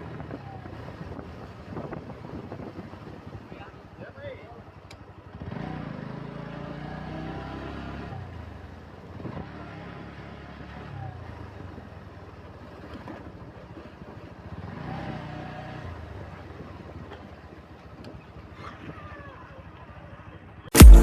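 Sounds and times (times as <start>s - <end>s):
motorcycle engine accelerating: 0.0s - 4.0s, 4.7s - 21.0s.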